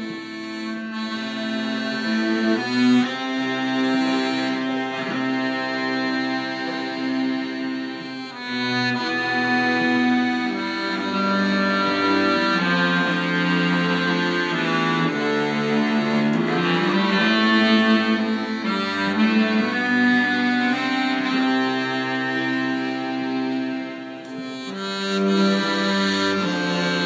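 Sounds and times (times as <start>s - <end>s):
accordions: 0.0s - 27.0s
bowed cello: 0.0s - 27.0s
clarinet: 0.0s - 27.0s.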